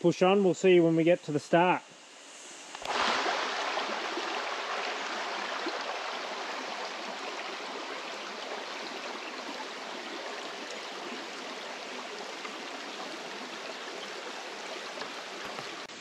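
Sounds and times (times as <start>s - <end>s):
creek water rushing over stones: 2.8s - 16.0s.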